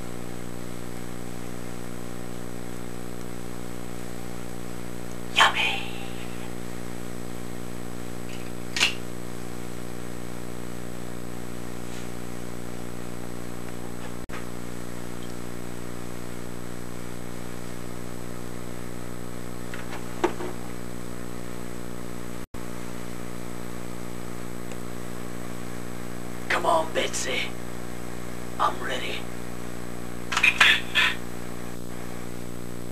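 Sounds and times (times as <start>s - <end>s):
electrical hum: 0.0s - 32.9s.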